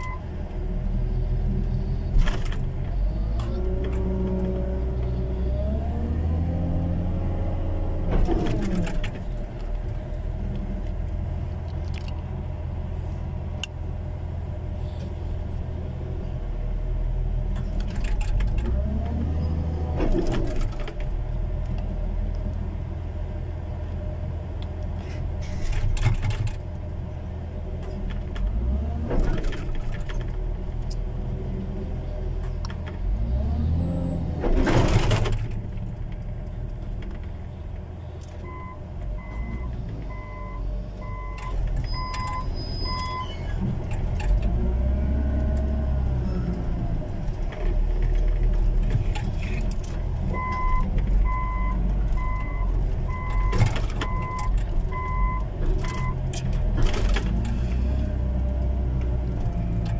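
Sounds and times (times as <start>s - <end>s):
diesel engine running and revving: 0.0s - 59.9s.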